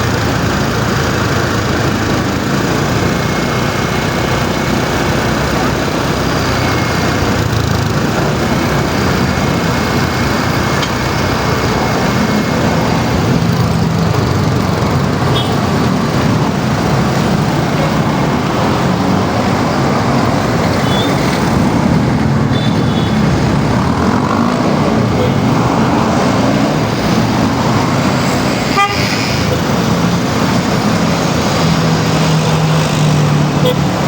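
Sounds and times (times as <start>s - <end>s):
heavy vehicle engines running: 0.0s - 34.0s
road traffic noise: 0.0s - 34.0s.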